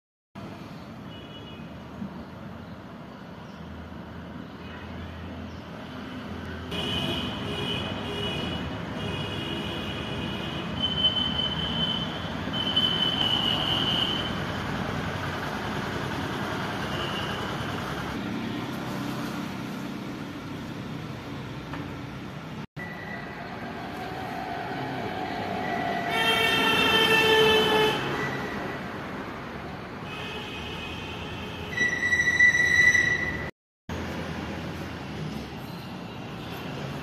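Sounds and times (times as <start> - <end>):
road traffic rumble: 0.4 - 37.0.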